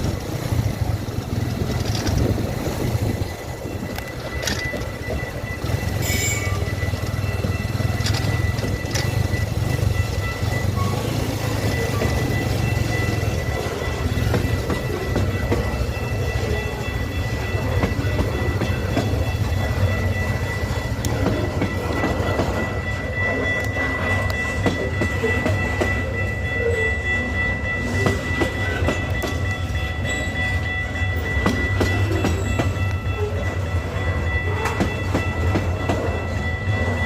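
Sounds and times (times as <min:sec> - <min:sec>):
train rumbling past: 0:00.0 - 0:37.0
wheels clattering over rails: 0:00.0 - 0:37.0.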